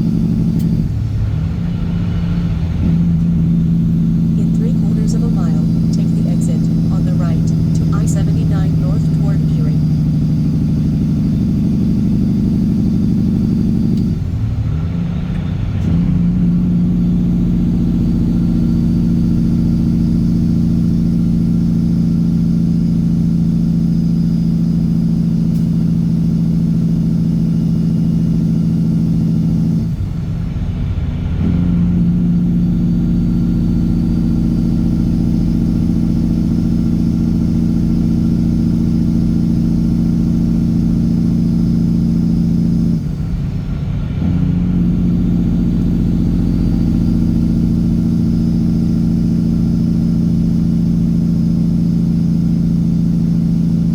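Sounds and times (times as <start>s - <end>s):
truck diesel exhaust drone: 0.0s - 53.9s.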